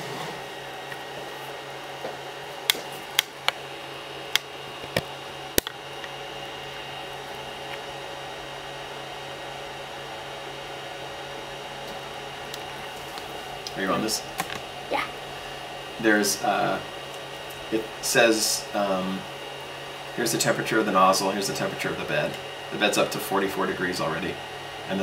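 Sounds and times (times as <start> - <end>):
printer cooling fans humming: 0.0 - 25.0.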